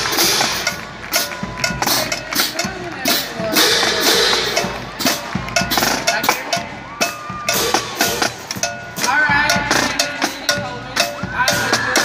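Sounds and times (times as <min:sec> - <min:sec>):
crowd chatter echoing: 0:00.0 - 0:12.0
marching drumline playing: 0:00.0 - 0:12.0.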